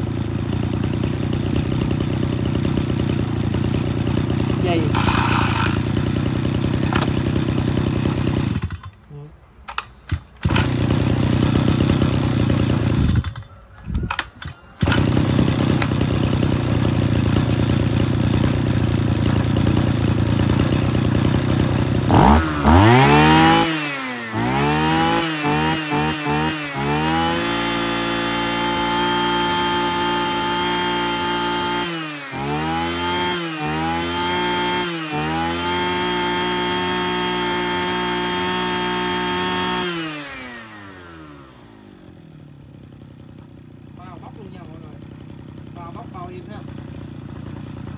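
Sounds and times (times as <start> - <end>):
brush cutter engine revving: 0.0 - 47.9.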